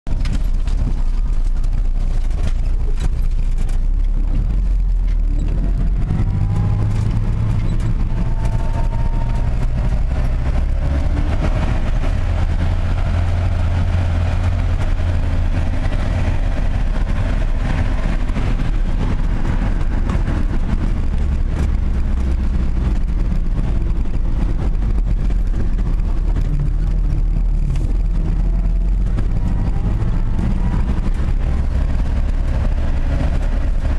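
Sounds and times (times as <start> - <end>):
road noise: 0.0 - 33.9
faint engine whine: 0.1 - 33.9
vehicle engine drone: 0.1 - 33.9.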